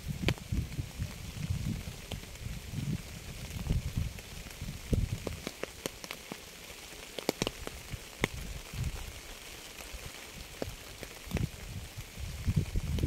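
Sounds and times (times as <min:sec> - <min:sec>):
rain falling: 0:00.0 - 0:13.0
raindrops ticking and plinking: 0:00.0 - 0:13.0.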